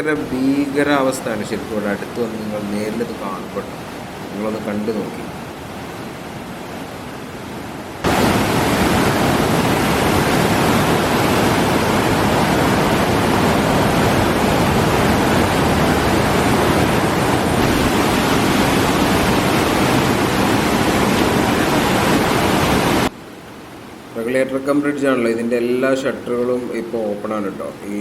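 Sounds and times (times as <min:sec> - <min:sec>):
river water rushing through shutters: 0:00.0 - 0:28.0.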